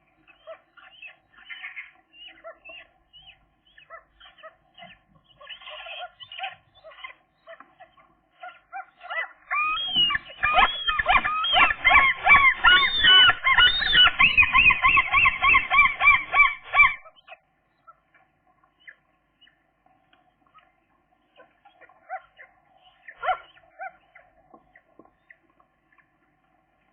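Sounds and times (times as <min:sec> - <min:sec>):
gull calling: 0:00.3 - 0:19.6, 0:21.4 - 0:26.1.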